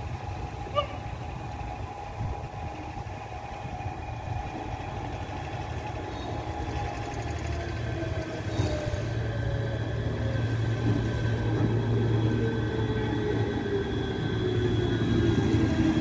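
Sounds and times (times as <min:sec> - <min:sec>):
electric locomotive whine: 0:00.0 - 0:16.0
locomotive low rumble: 0:00.0 - 0:16.0.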